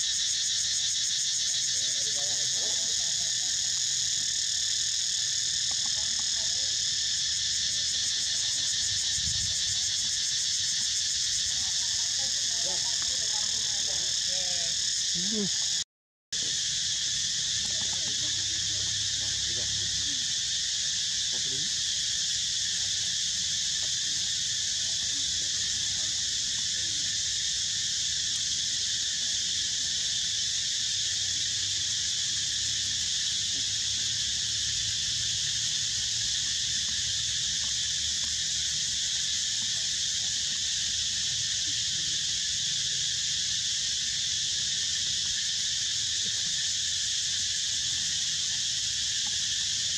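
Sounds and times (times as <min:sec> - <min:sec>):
insects droning: 0:00.0 - 0:15.8, 0:16.4 - 0:49.9.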